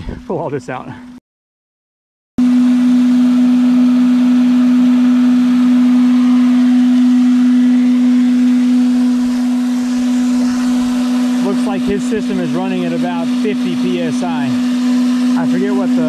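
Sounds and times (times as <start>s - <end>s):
turbine and generator hum: 2.4s - 16.0s.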